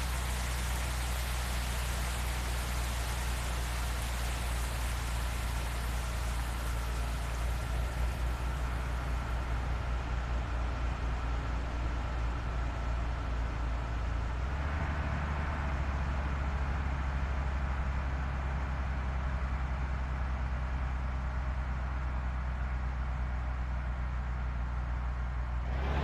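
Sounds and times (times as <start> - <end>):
bus engine running: 0.0 - 26.0
road noise: 0.0 - 26.0.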